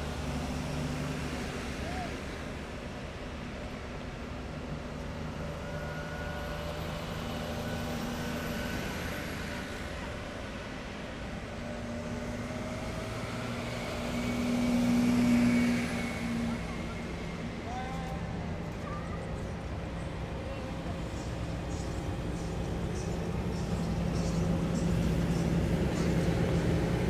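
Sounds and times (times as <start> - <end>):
heavy vehicle engines rumbling: 0.0 - 27.0
road noise: 0.0 - 27.0.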